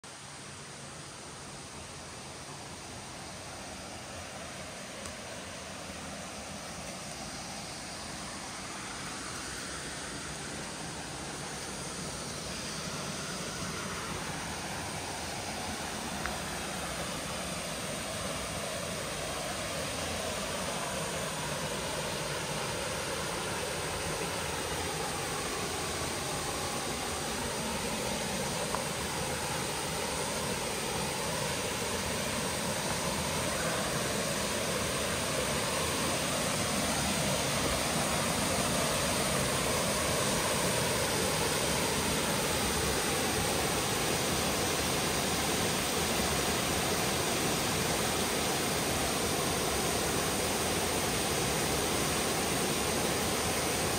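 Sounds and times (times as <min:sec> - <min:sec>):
waterfall rushing into pool: 0:00.0 - 0:53.9.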